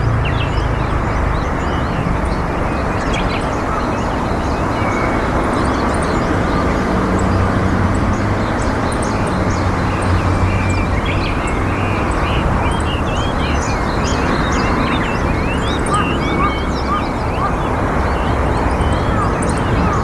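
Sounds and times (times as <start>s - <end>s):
loud outdoor rumble: 0.0s - 20.0s
low engine-like hum: 0.0s - 20.0s
small birds chirping: 0.0s - 20.0s.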